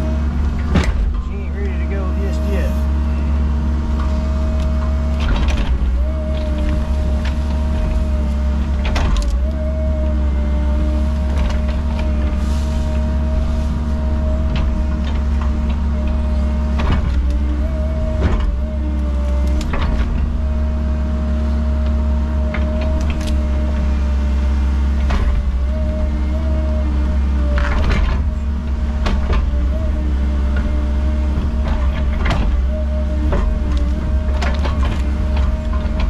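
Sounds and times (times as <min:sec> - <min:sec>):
excavator hydraulic whine: 0:00.0 - 0:36.0.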